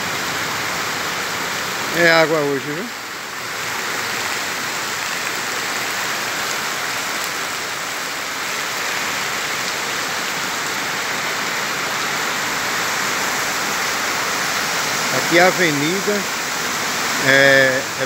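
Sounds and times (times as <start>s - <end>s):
heavy rain on flooded street: 0.0s - 18.0s.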